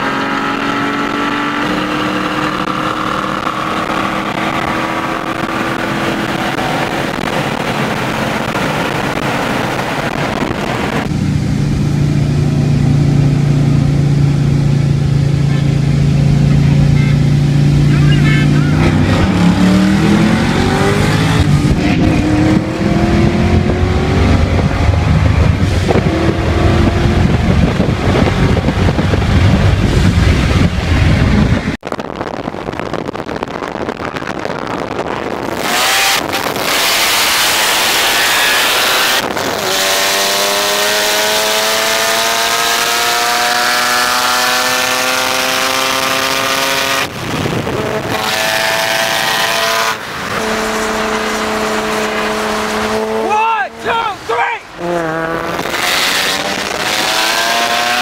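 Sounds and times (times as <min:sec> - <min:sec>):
car engine accelerating hard: 0:00.0 - 0:58.0
cars racing at full throttle: 0:00.0 - 0:58.0
road and wind noise: 0:00.0 - 0:58.0.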